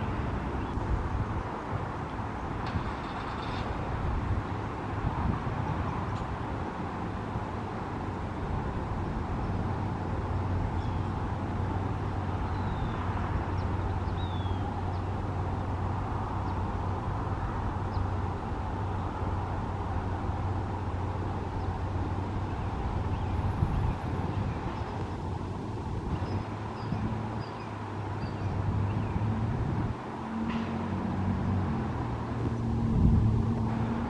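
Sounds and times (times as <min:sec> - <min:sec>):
road traffic: 0:00.0 - 0:34.0.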